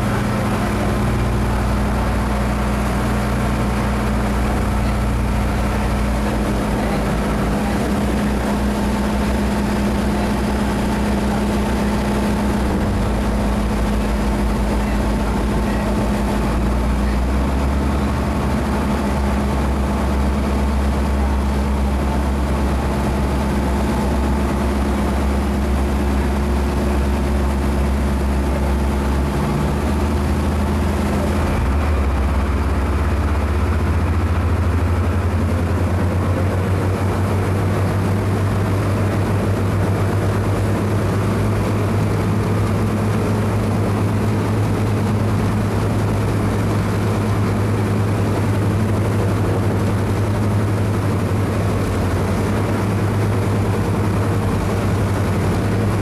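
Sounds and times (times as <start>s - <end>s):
ship engines droning: 0.0s - 56.0s.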